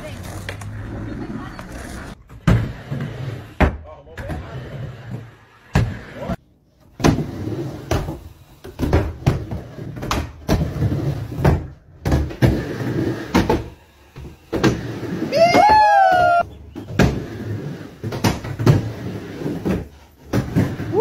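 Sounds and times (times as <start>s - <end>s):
skateboard wheels rolling on wood: 0.0s - 21.0s.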